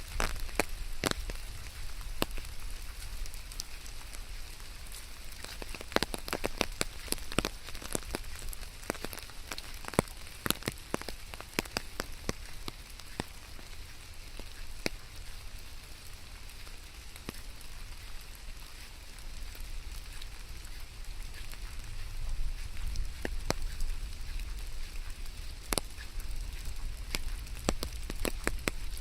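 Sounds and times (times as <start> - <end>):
heavy raindrops tapping: 0.0 - 29.0
steady rain: 0.0 - 29.0.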